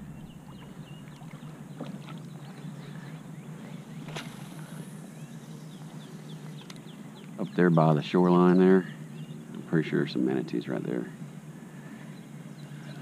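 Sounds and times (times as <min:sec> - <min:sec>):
small birds chirping faintly: 0:00.0 - 0:13.0
wind: 0:00.0 - 0:13.0.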